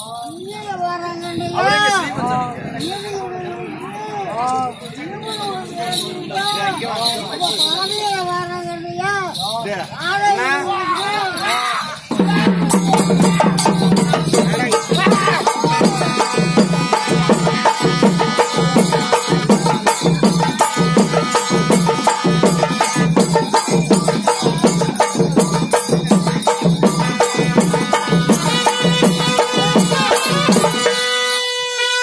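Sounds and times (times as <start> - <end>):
held high tone: 0.0 - 32.0
drums beating steady rhythm: 0.6 - 32.0.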